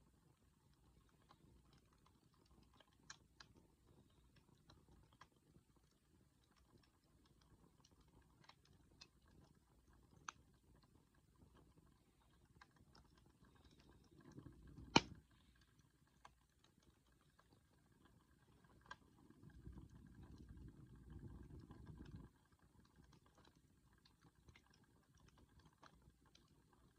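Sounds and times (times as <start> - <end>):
bonfire crackling and popping: 0.0 - 26.9.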